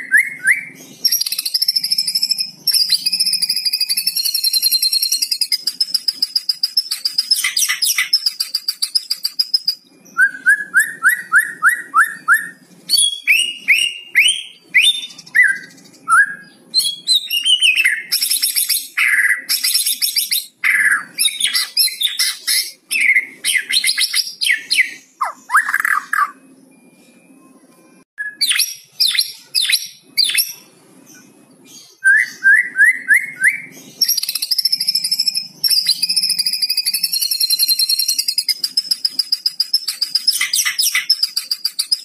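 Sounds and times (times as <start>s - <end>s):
songbird singing: 0.0s - 27.0s, 28.2s - 42.0s.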